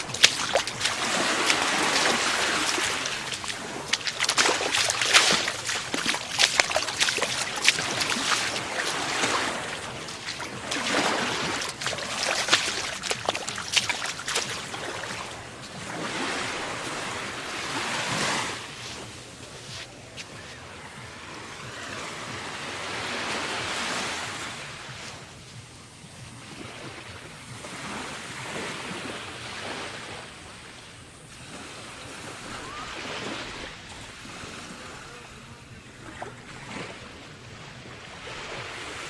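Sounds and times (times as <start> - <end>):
surf washing on sandy beach: 0.0 - 39.0.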